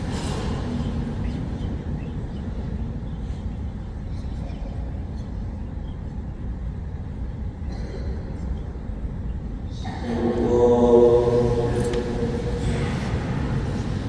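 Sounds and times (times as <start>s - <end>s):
low rumble of room noise: 0.0s - 14.0s.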